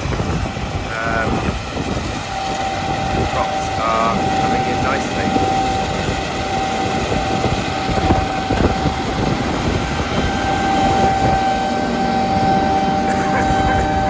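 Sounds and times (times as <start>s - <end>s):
combine harvester drone: 0.0s - 14.0s
high-pitched mechanical whine: 0.0s - 14.0s.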